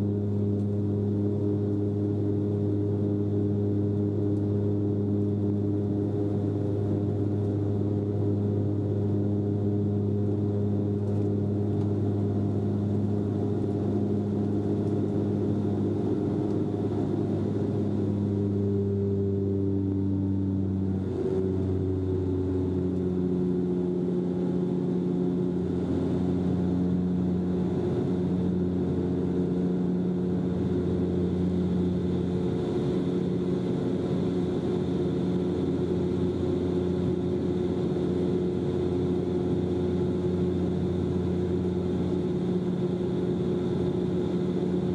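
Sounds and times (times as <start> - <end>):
propeller drone: 0.0 - 44.9.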